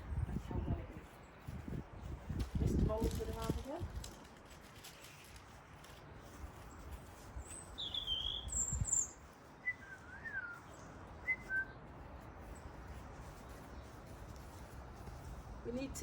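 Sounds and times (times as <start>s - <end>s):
small birds chirping: 0.0s - 3.9s, 4.6s - 16.0s
low rumble of wind: 0.0s - 16.0s.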